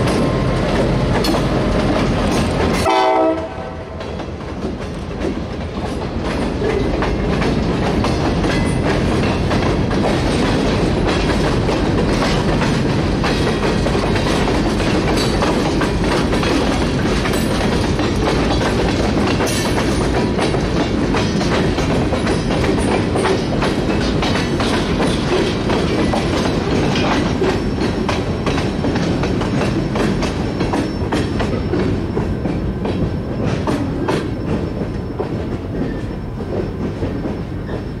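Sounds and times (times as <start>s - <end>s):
train wheels clattering over rail joints: 0.0s - 38.0s.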